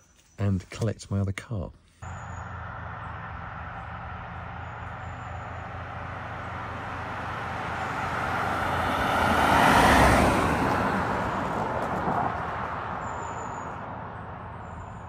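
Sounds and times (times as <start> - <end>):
low engine hum: 2.0 - 15.0
vehicle passing by: 2.0 - 15.0.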